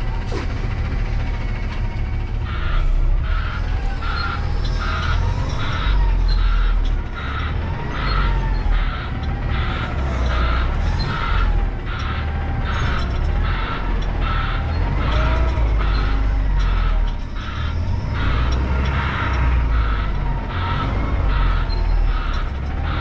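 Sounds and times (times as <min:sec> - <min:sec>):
diesel engine rumble: 0:00.0 - 0:23.0.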